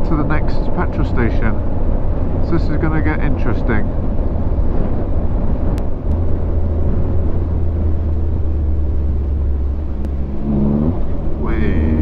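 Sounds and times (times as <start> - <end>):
motorcycle engine rumble: 0.0 - 12.0
wind rushing over microphone: 0.0 - 12.0.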